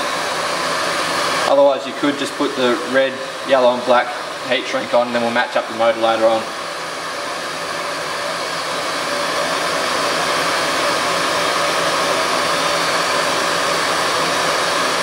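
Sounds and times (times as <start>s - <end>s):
extractor fan rushing air: 0.0s - 15.0s.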